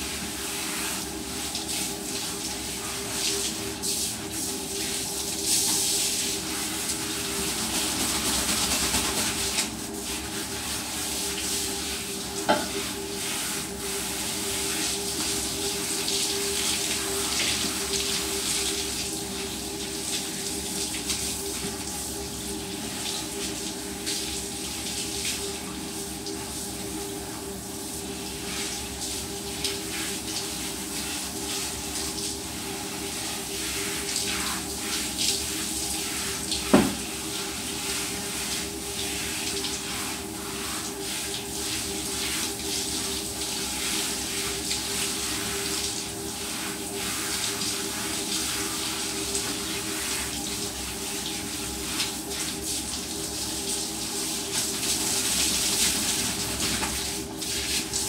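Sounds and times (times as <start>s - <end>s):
shower water spraying: 0.0s - 58.0s.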